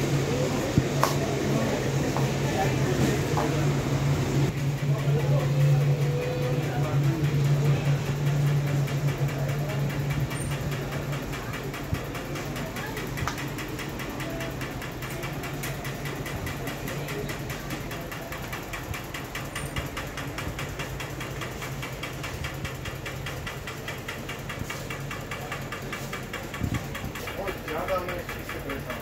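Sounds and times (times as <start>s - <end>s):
pulsing mechanical drone: 0.0s - 29.0s.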